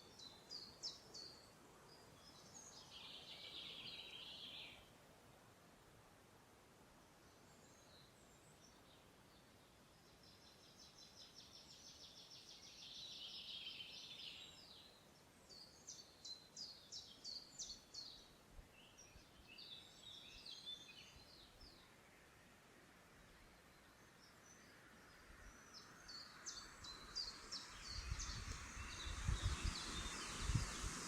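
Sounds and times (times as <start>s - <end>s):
songbirds singing: 0.0s - 4.9s, 7.1s - 22.4s, 23.0s - 31.0s
faint steady background hiss: 0.0s - 31.0s.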